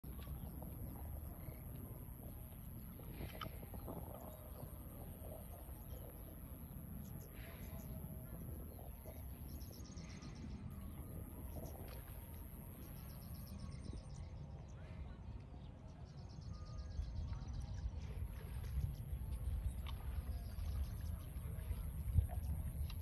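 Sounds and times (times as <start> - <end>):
low wind rumble: 0.0 - 23.0.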